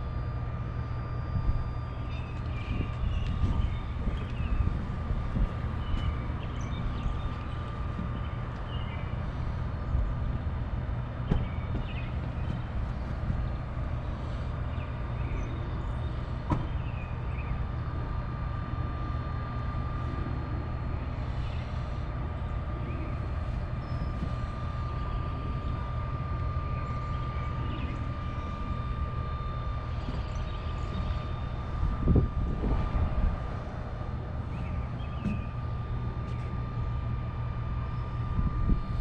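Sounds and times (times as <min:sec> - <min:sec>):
high engine whine: 0:00.0 - 0:39.0
vehicle engine rumbling: 0:00.0 - 0:39.0.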